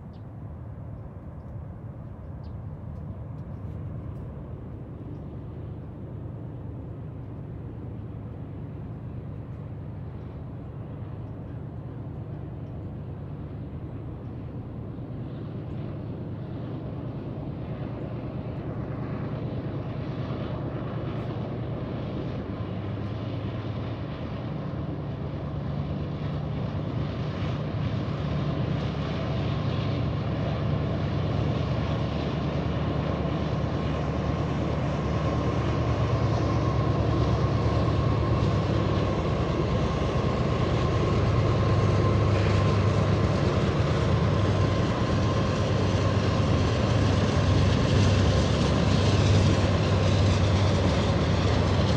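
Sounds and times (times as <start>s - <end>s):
diesel locomotives rumbling: 0.0s - 51.9s.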